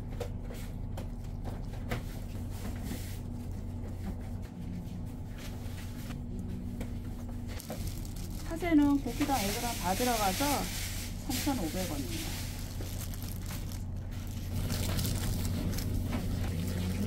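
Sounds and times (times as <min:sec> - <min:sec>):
kitchen equipment humming: 0:00.0 - 0:17.0.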